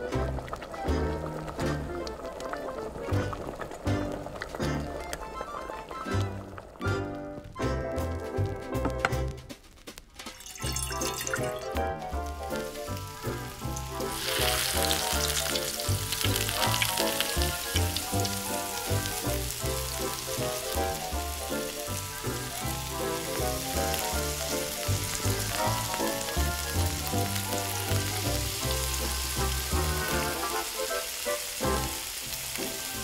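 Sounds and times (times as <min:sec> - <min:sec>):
meat sizzling in hot oil: 0:00.0 - 0:07.4, 0:10.3 - 0:33.0
background music: 0:00.0 - 0:33.0.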